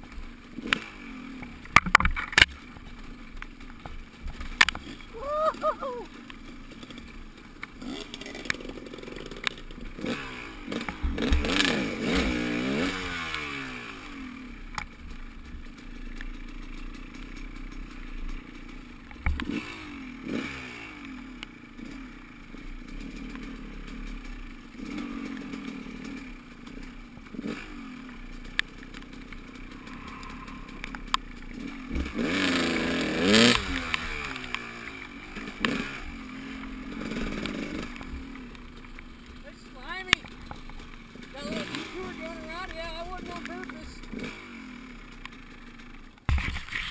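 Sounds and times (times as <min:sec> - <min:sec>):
motorcycle engine revving: 0:00.0 - 0:46.9
rush of riding noise: 0:00.0 - 0:46.9.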